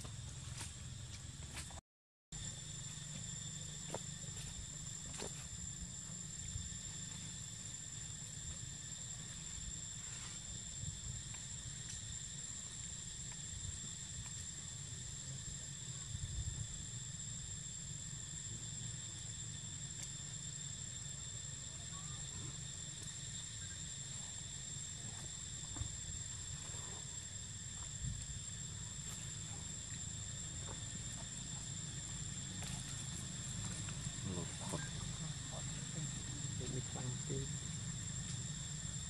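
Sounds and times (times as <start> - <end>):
high-pitched insect drone: 2.4 - 39.0.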